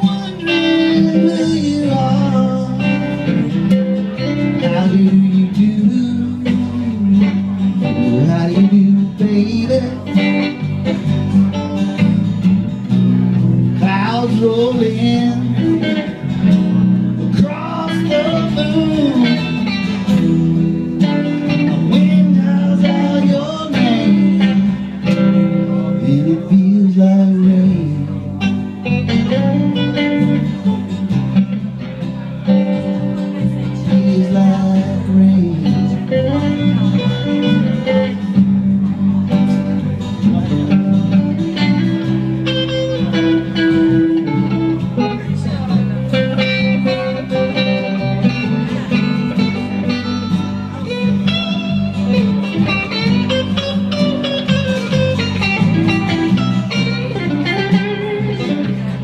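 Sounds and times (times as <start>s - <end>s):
bending lead guitar notes: 0.0s - 59.0s
live band playing blues-country: 0.0s - 59.0s.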